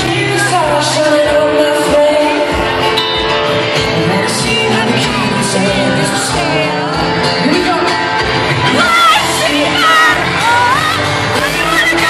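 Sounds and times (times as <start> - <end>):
guitar: 0.0 - 12.0
live pop music: 0.0 - 12.0
man singing: 0.0 - 12.0.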